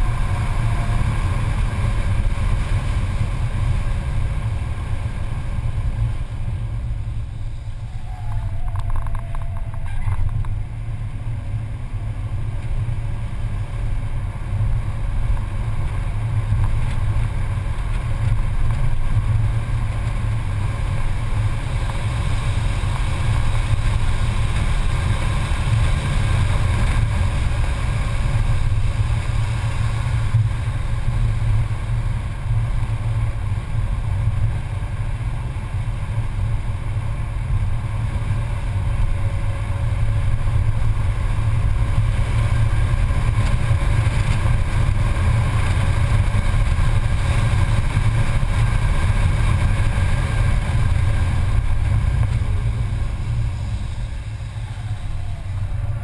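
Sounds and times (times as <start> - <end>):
car engine drone: 0.0 - 56.0
road and wind noise: 0.0 - 56.0.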